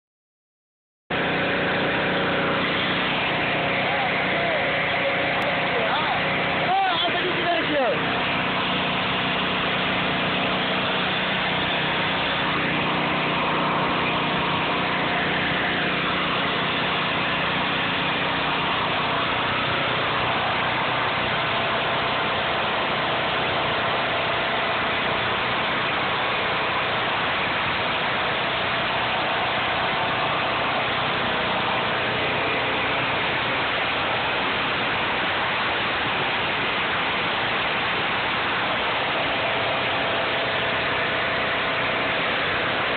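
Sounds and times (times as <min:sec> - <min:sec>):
pressure washer engine running: 0:01.1 - 0:42.9.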